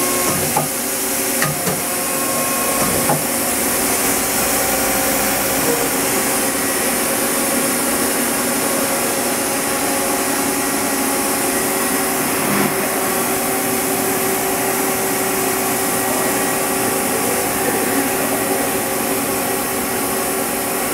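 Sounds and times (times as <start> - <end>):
machine hiss with hum tones: 0.0 - 20.9.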